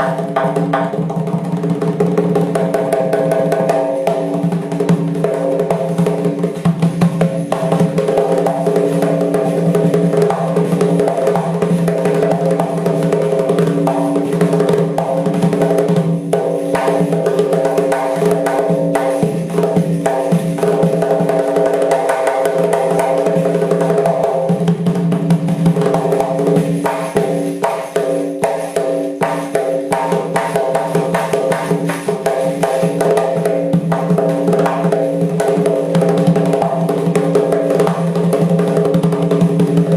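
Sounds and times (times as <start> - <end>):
frame drum fast rhythm: 0.0 - 39.9.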